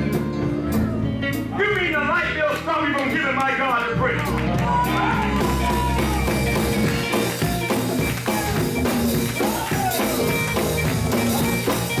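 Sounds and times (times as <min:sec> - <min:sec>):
gospel band with drums: 0:00.0 - 0:12.0.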